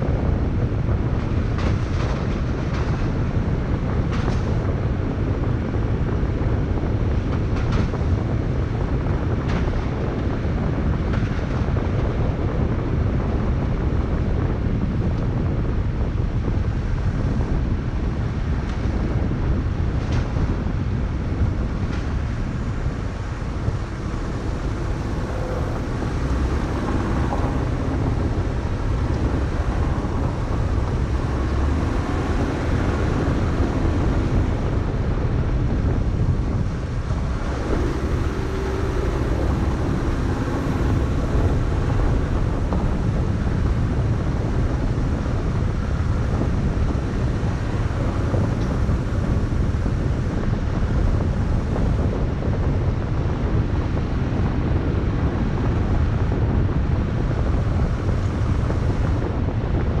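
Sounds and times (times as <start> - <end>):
tyres and engine rumble on gravel: 0.0 - 60.0
wind buffeting microphone: 0.0 - 60.0.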